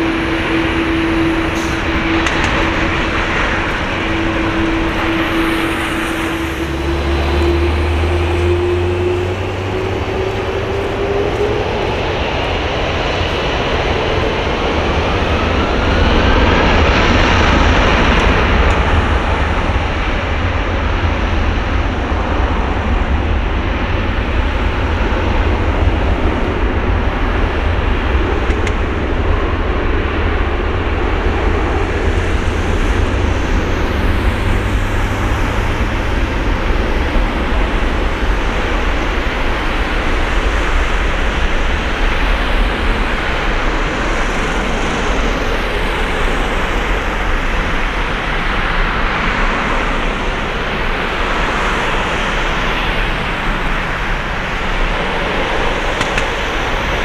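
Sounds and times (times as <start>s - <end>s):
jet engines spooling up: 0.0s - 57.0s
loud steady jet roar: 0.0s - 57.0s.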